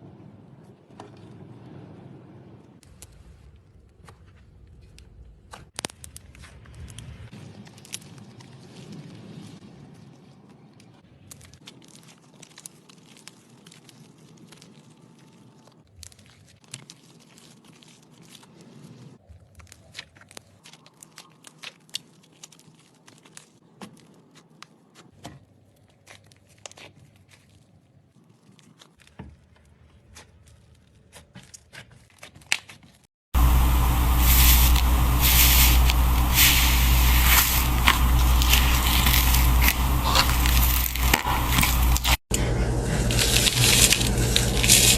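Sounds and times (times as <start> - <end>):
crisp food crunching and crackling: 5.7 - 44.9.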